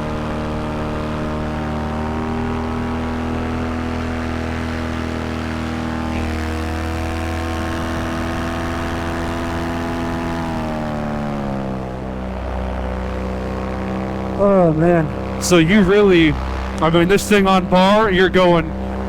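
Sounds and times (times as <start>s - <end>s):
paramotor engine and propeller: 0.0s - 19.0s.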